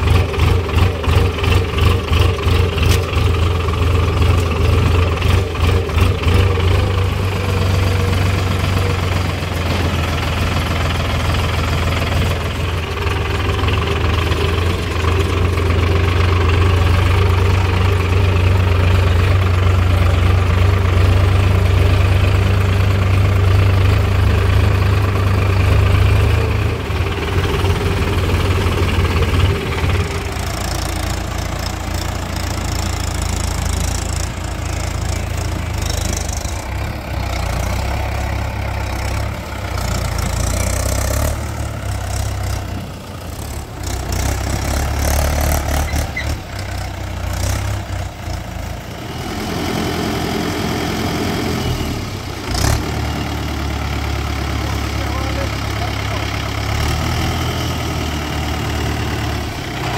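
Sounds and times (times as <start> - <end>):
diesel tractor engines rumbling: 0.0 - 59.9.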